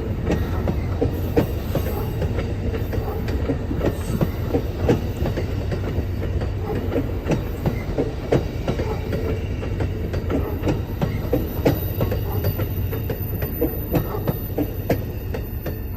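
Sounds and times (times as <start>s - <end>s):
passenger train rumbling past: 0.0s - 15.9s
wheels clicking over rail joints: 0.0s - 15.9s.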